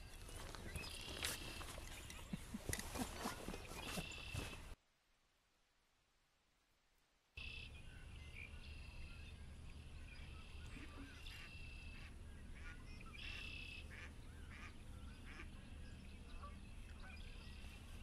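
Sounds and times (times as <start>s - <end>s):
birds calling: 0.0s - 4.8s, 7.4s - 18.0s.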